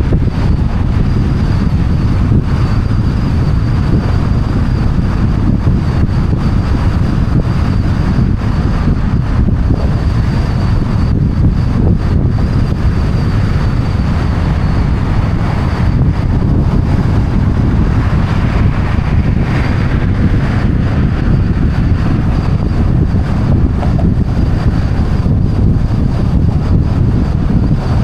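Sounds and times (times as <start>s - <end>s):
road noise: 0.0s - 28.0s
wind buffeting microphones: 0.0s - 28.0s.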